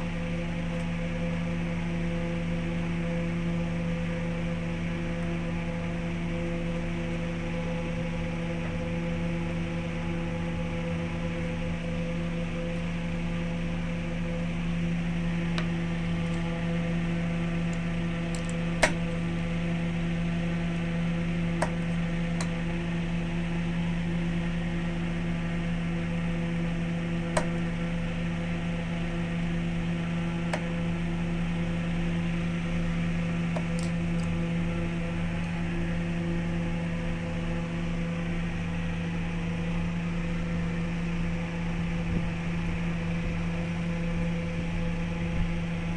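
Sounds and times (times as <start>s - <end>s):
lathe motor humming: 0.0s - 44.6s.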